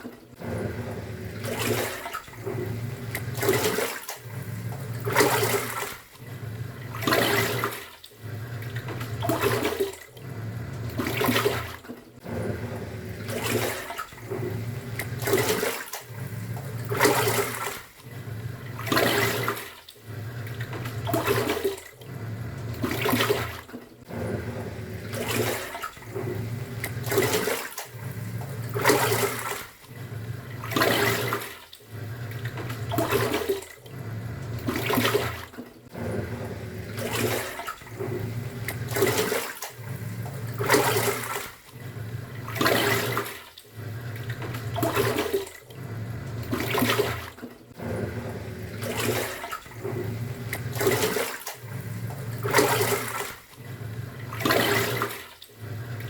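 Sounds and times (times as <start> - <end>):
washing machine motor humming: 0.0 - 56.0
water sloshing: 0.0 - 56.0.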